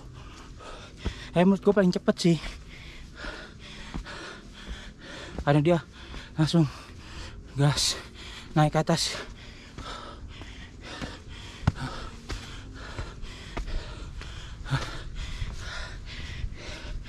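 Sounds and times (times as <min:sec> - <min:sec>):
heavy breathing: 0:00.0 - 0:17.0.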